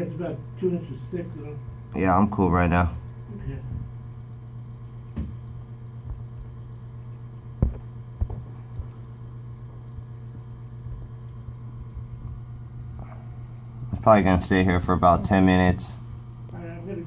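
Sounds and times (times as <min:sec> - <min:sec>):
electric pump humming: 0:00.0 - 0:17.0.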